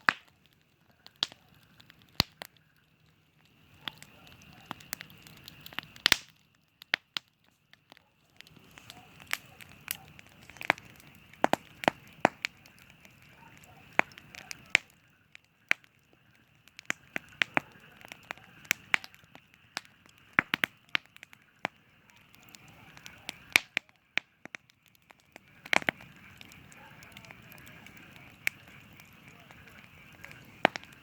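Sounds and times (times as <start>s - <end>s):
burning wood popping: 0.0s - 31.0s
campfire crackling: 0.0s - 31.0s.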